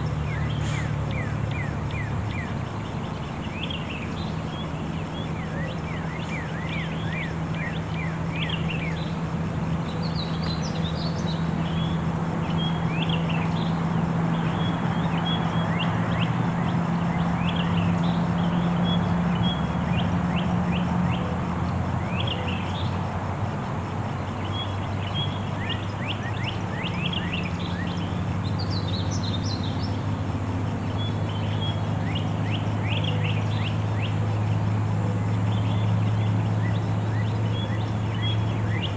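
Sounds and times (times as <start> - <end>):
birds chirping and chattering: 0.0 - 38.9.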